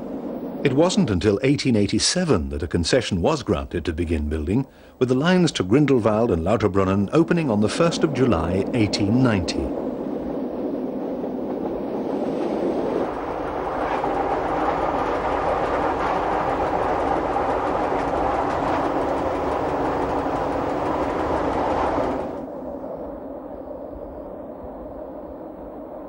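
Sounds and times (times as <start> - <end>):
train rolling on rails: 0.0 - 22.6.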